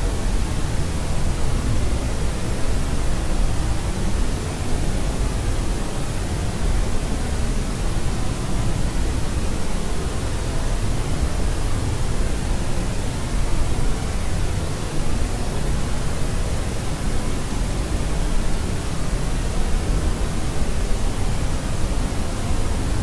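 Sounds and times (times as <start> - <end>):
pink noise hiss: 0.0 - 23.0.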